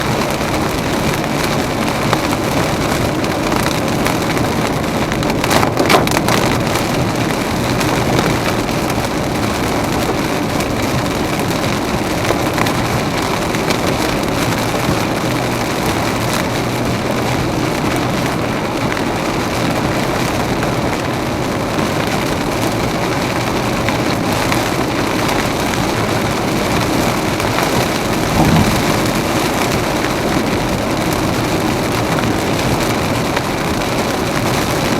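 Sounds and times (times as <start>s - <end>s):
heavy rain on a car: 0.0s - 34.9s.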